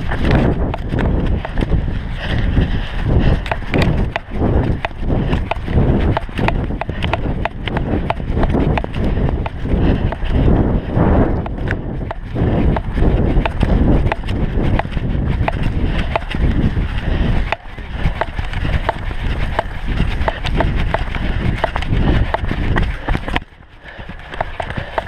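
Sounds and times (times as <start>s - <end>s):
heavy low rumble: 0.0s - 25.0s
running footsteps: 0.0s - 25.0s.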